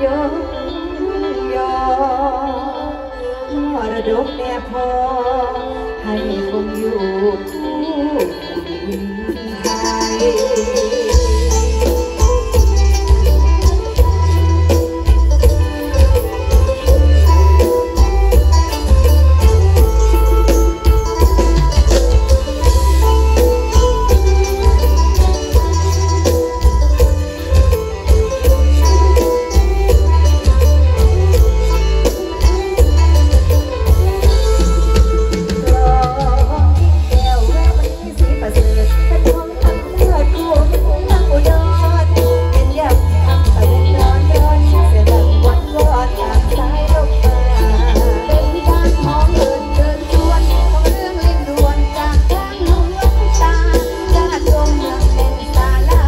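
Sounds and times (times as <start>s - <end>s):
live band music over loudspeakers: 0.0s - 56.0s
sustained melody line: 0.0s - 56.0s
steady drum beat: 11.1s - 56.0s.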